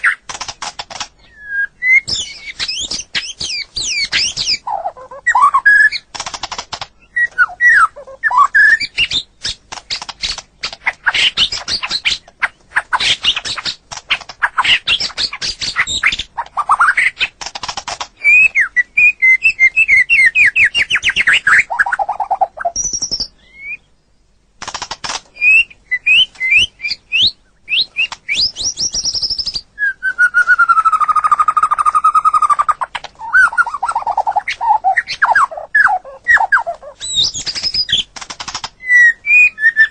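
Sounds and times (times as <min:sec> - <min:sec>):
bird singing varied song: 0:00.0 - 0:24.5, 0:25.3 - 0:39.9.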